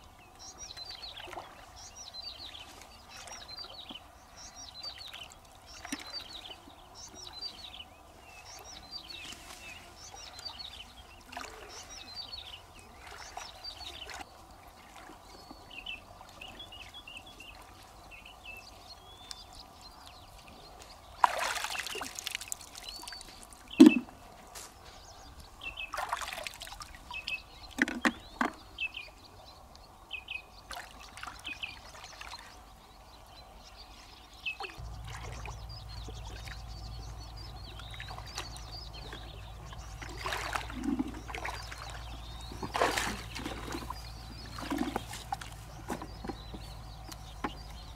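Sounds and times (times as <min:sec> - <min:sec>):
pond water splashing: 0:00.0 - 0:28.9, 0:30.5 - 0:32.8, 0:34.6 - 0:47.9
small birds chirping: 0:00.0 - 0:47.9.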